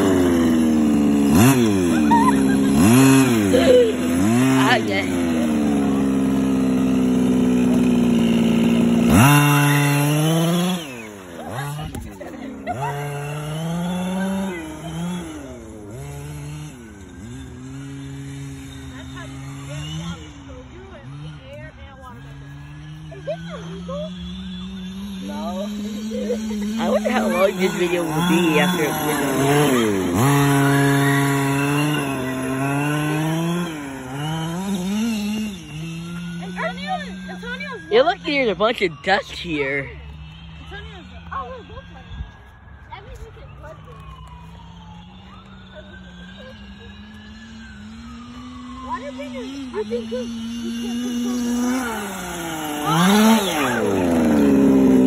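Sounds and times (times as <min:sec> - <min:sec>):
radio-controlled car motor buzzing: 0:00.0 - 0:42.1, 0:45.1 - 0:55.0
two-stroke engine at high revs: 0:00.0 - 0:42.2, 0:42.8 - 0:55.0.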